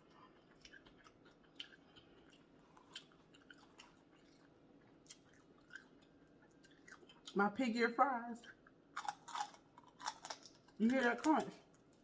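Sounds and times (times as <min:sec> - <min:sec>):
chewing food: 0:00.0 - 0:07.4, 0:08.4 - 0:12.0.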